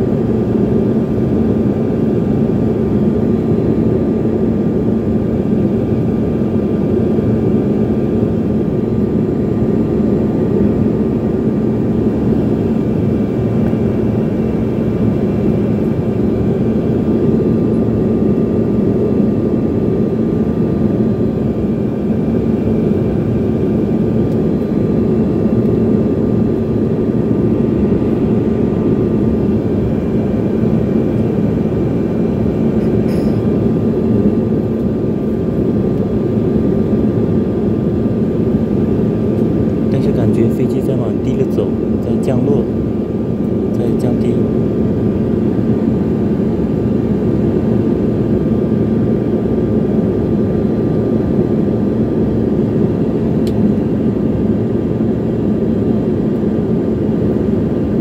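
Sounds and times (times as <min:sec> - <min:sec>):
high engine whine: 0:00.0 - 0:58.0
plane engines droning: 0:00.0 - 0:58.0.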